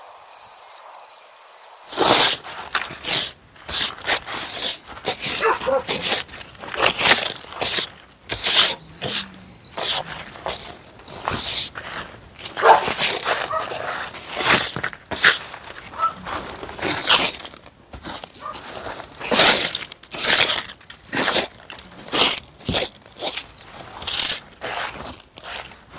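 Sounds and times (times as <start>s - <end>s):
broom sweeping dry leaves: 0.5s - 25.9s.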